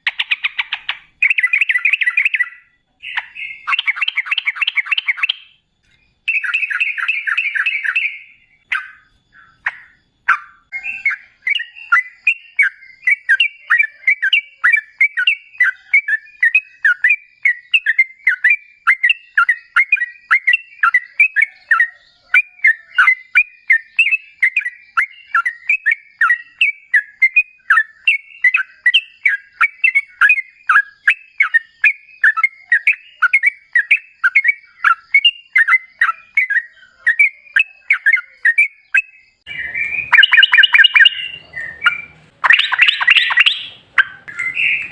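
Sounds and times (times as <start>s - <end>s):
bulbul singing: 0.0s - 44.9s.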